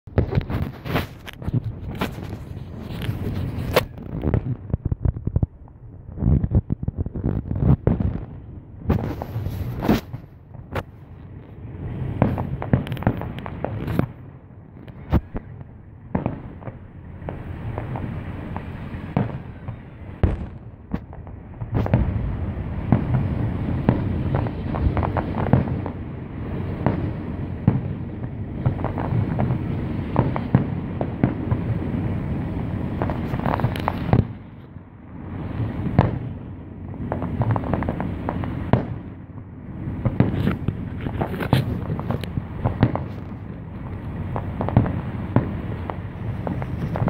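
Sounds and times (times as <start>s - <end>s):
continuous rumble: 0.1s - 47.0s
fireworks bursting: 0.1s - 47.0s.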